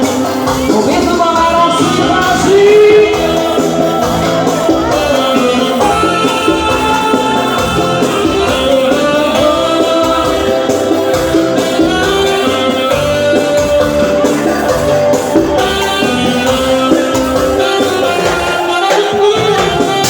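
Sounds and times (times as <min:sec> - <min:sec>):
latin dance music: 0:00.0 - 0:20.0.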